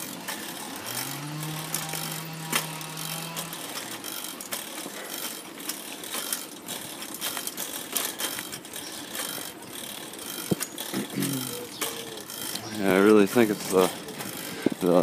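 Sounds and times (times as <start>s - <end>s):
bicycle chain clicking and rattling: 0.0s - 15.0s
bicycle rolling noise: 0.0s - 15.0s.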